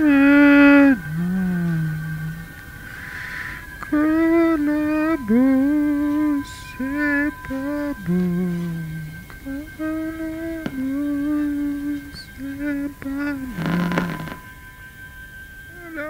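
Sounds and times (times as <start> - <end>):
high steady tone: 0.0 - 16.0
slow melody of sliding notes: 0.0 - 16.0.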